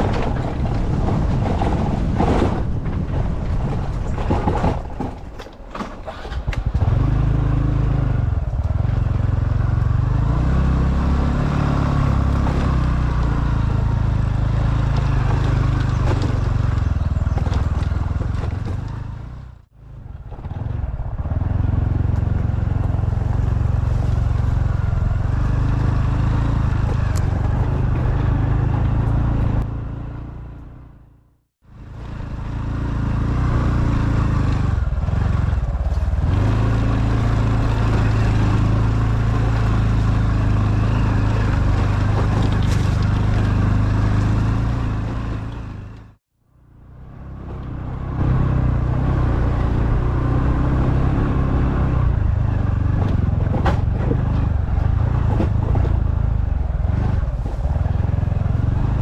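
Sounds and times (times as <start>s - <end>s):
road and wind noise: 0.0s - 59.0s
motorcycle engine running: 6.1s - 59.0s.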